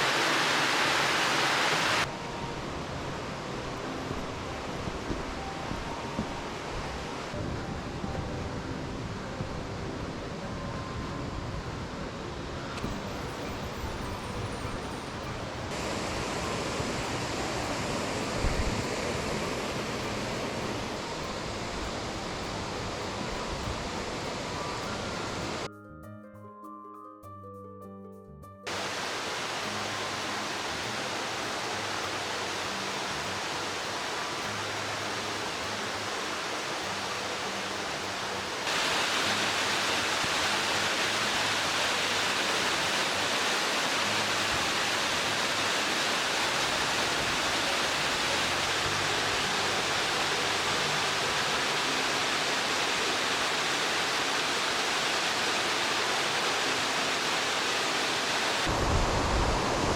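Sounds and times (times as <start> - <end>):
waterfall roaring: 0.0 - 25.7, 28.7 - 59.9.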